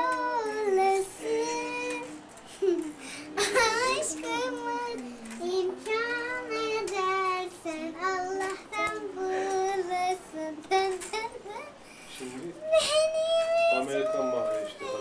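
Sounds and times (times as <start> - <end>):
girl singing: 0.0 - 12.0, 12.6 - 15.0.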